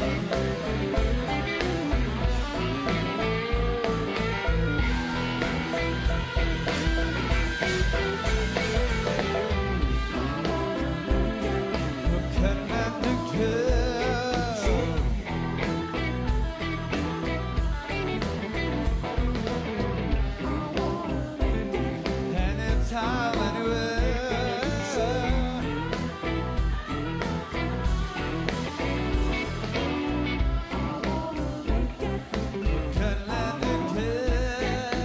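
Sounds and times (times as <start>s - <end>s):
bass and guitars: 0.0s - 35.0s
drums keeping a steady beat: 0.0s - 35.0s
person singing: 0.0s - 35.0s.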